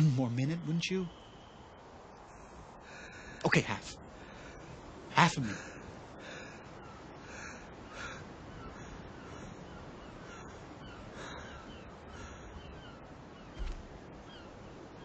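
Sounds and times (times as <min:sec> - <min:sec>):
birds calling: 0:00.0 - 0:15.0
faint outdoor hiss: 0:00.0 - 0:15.0.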